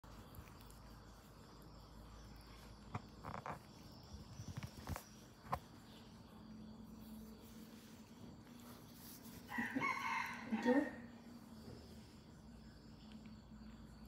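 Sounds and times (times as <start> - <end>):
cats scuffling on tiled floor: 0.0 - 13.8
faint insects chirring: 0.0 - 14.0.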